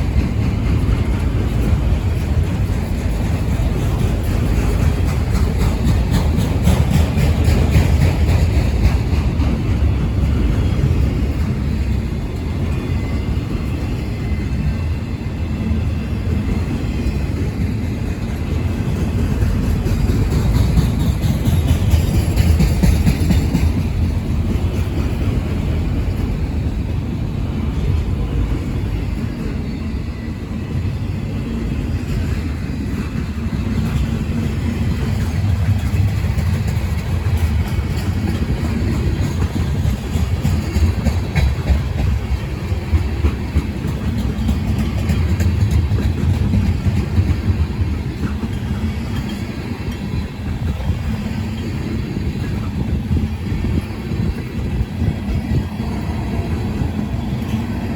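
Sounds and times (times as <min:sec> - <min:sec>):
freight train rumbling past: 0:00.0 - 0:57.9.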